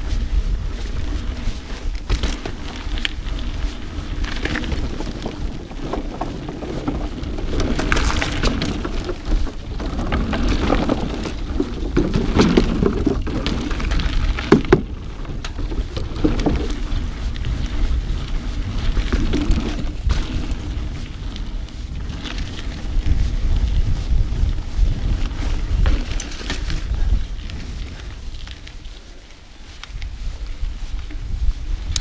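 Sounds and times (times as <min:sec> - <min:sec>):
bike clicks and rattles: 0:00.0 - 0:32.0
bike tyre noise: 0:00.0 - 0:32.0
wind rumble on microphone: 0:00.0 - 0:32.0.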